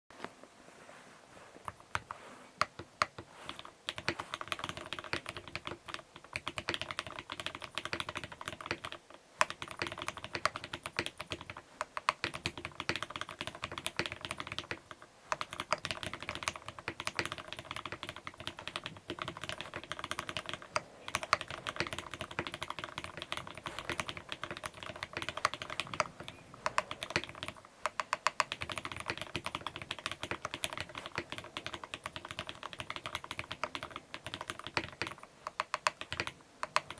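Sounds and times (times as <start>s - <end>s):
mechanical keyboard typing: 1.7s - 36.9s.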